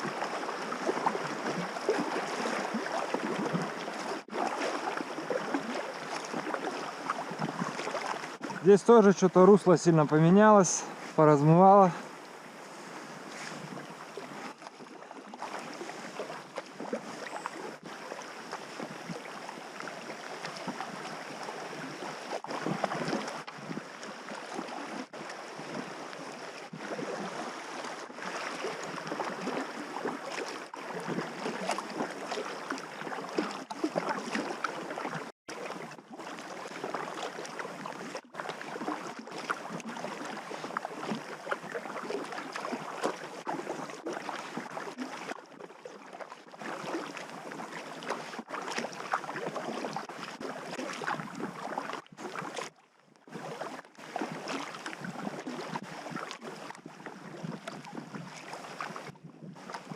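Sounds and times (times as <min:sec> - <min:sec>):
river water splashing and rushing: 0:00.0 - 0:59.9.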